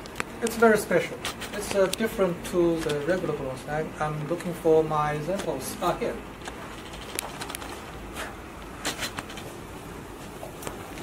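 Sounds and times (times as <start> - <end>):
low room noise: 0.0 - 11.0.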